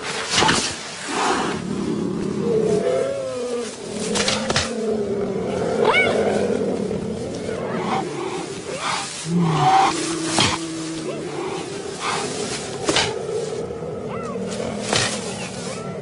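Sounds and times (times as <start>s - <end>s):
big cats growling: 1.3s - 16.0s.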